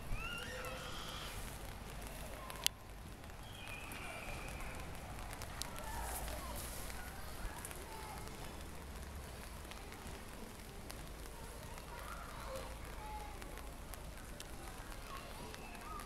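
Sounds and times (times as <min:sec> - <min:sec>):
rainwater running in a gutter: 0:00.0 - 0:16.0
small ticks: 0:01.5 - 0:16.0.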